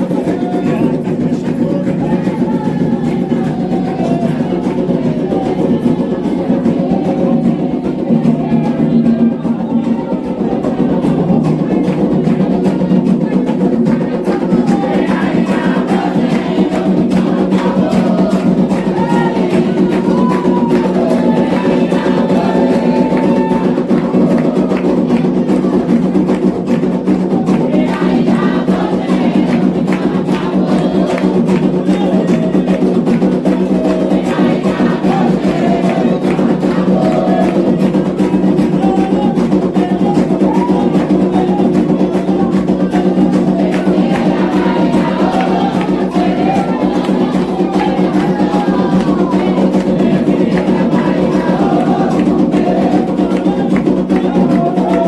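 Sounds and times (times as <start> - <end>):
group singing a chant: 0.0 - 55.0
rhythmic hand drumming: 0.0 - 55.0.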